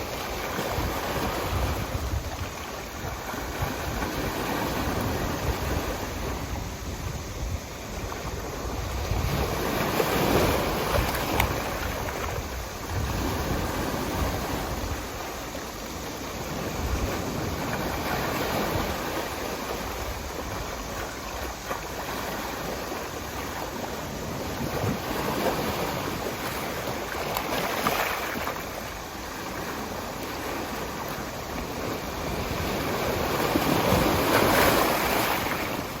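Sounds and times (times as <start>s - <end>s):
sea waves breaking on shore: 0.0s - 36.0s.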